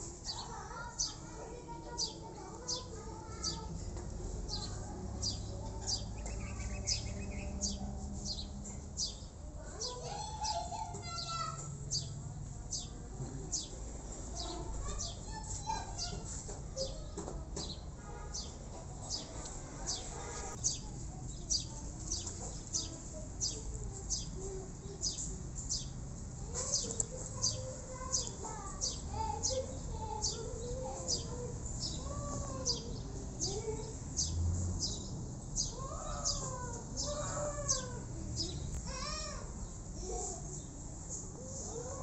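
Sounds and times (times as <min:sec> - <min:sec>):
bird chirping: 0:04.4 - 0:39.8.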